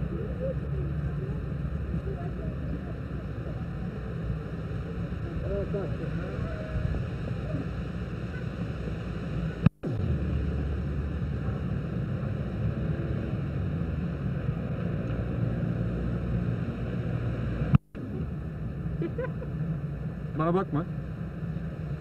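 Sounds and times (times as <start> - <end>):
low rumble and hiss: 0.0 - 22.0.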